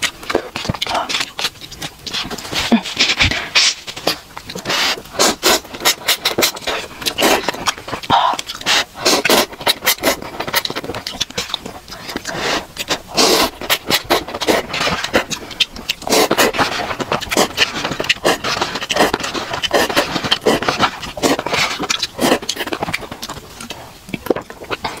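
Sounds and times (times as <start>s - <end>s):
slurping noodles: 0.0s - 23.9s
chewing: 0.0s - 25.0s.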